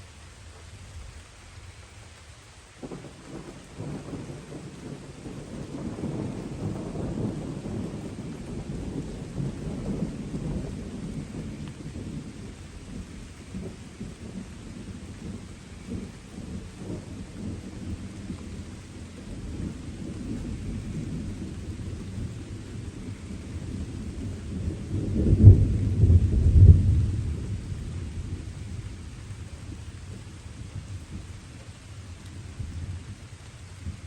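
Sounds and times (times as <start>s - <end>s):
light rain: 0.0s - 34.0s
distant thunder rumbling: 2.8s - 34.0s.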